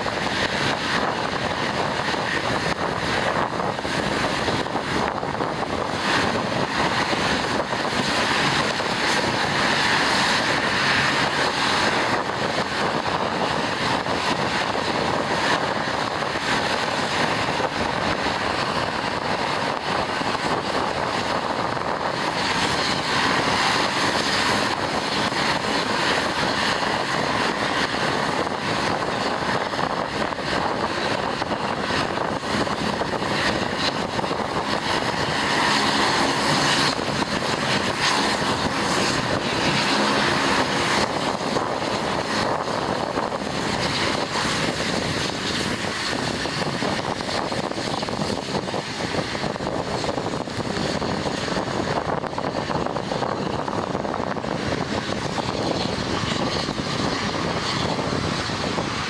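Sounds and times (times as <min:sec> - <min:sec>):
propeller engines droning: 0:00.0 - 0:59.0.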